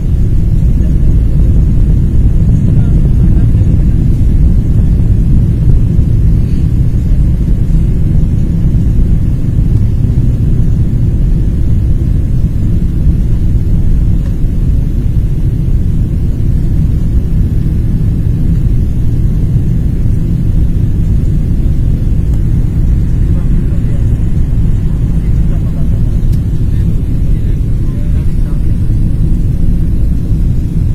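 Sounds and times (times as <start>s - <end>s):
airliner cabin rumble: 0.0s - 30.9s.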